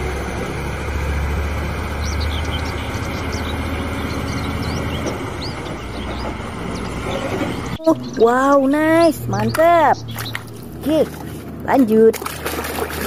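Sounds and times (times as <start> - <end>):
birds chirping: 0.0 - 13.0
diesel truck engine rumbling: 0.0 - 13.0.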